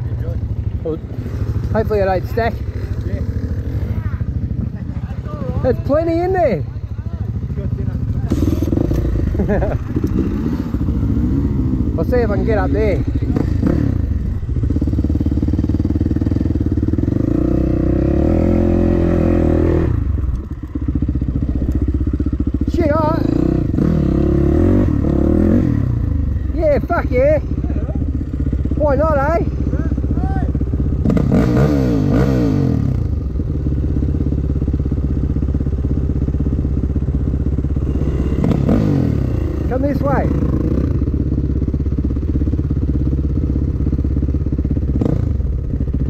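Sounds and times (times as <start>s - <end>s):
dirt bike engine revving: 0.0s - 43.4s.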